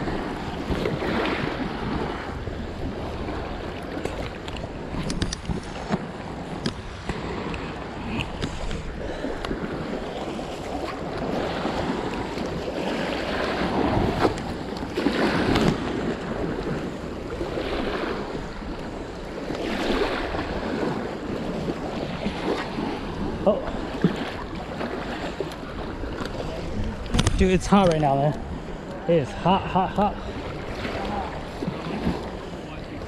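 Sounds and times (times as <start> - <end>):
small waves washing on shore: 0.0 - 33.0
wind buffeting microphone: 0.0 - 33.0.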